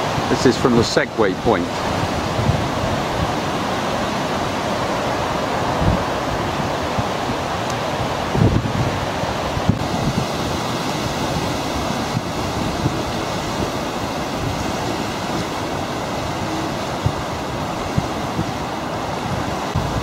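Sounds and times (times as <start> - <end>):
choppy lake water: 0.0 - 20.0
gusty wind on microphone: 0.0 - 20.0.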